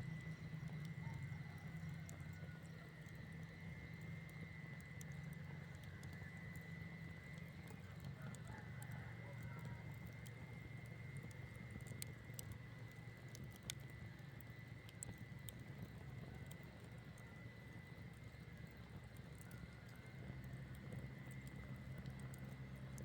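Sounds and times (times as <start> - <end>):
campfire crackling and popping: 0.1 - 23.0.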